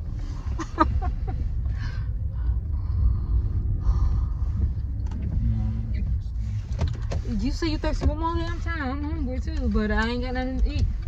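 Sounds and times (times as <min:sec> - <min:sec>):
car engine rumble: 0:00.0 - 0:11.0
road noise inside car: 0:00.0 - 0:11.0.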